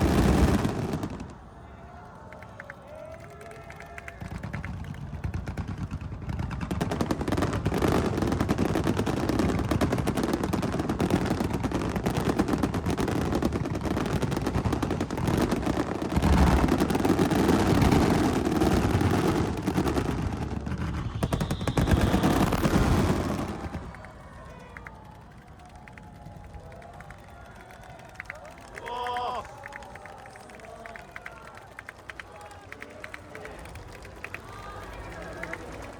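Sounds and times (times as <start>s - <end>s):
fireworks bursts and crackles: 0.0s - 35.9s.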